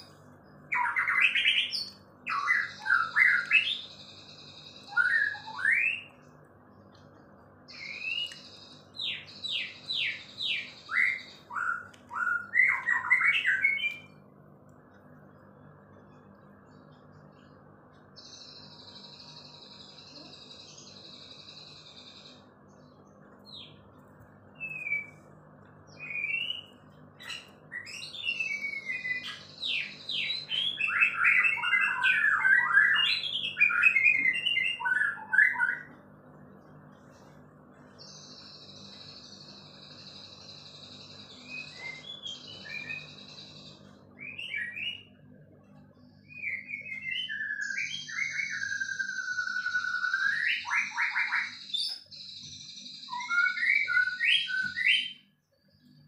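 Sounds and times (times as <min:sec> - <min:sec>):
high buzzing bird trills: 0:00.0 - 0:56.0
songbird singing: 0:00.0 - 0:56.0.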